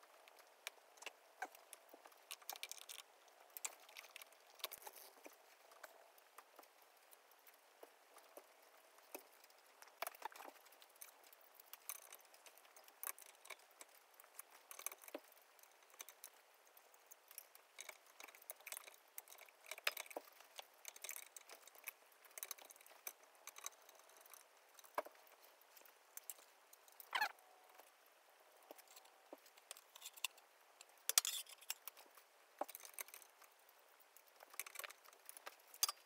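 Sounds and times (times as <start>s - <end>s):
small clicks and rattles: 0.0s - 36.0s.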